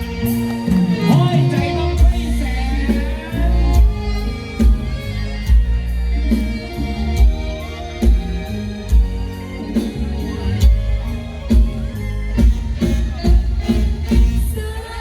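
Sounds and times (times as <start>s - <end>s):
heavy bass drum beat: 0.0s - 14.9s
live band music with singing: 0.0s - 15.0s.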